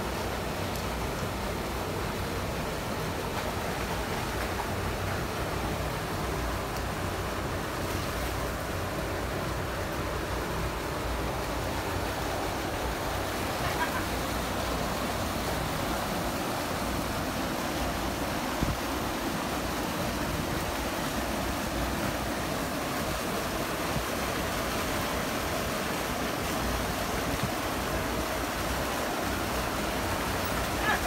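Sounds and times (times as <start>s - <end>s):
water rushing over a weir: 0.0s - 31.0s.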